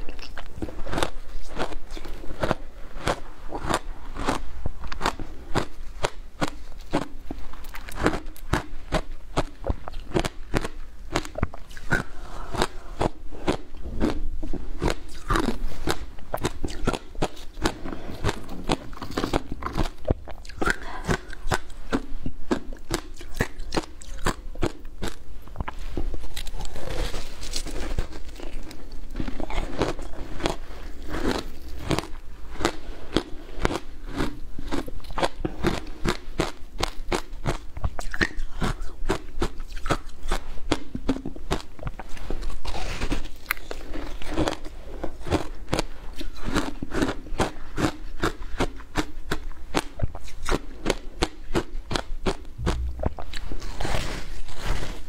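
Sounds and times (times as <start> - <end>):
ice crunched and chewed: 0.0 - 55.0.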